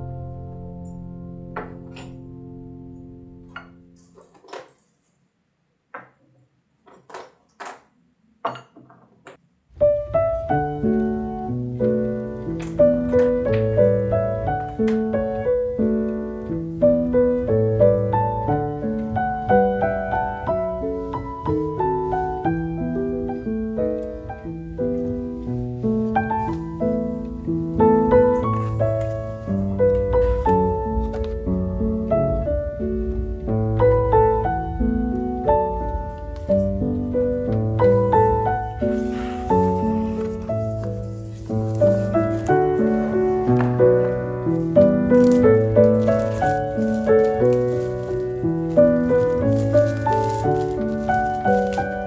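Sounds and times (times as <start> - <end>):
slow piano music: 0.0 - 4.6, 9.7 - 52.0.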